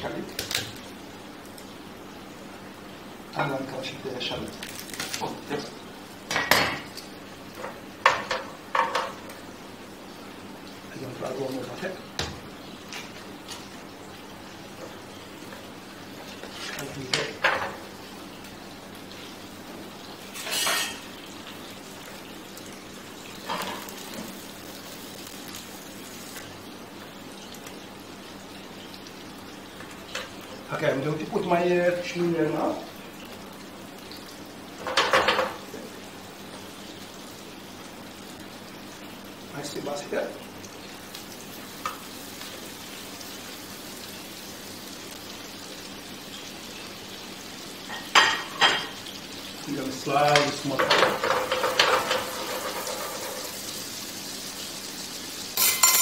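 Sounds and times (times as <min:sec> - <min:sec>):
butter and onion sizzling: 0:00.0 - 0:56.0.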